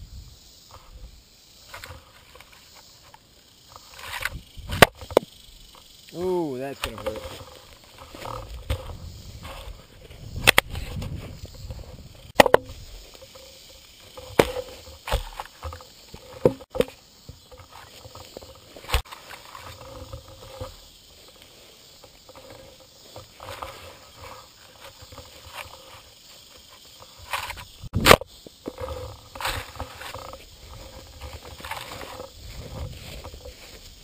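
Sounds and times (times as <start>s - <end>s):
camera handling and wind rumble: 3.8s - 6.0s, 6.8s - 21.0s, 22.0s - 34.0s.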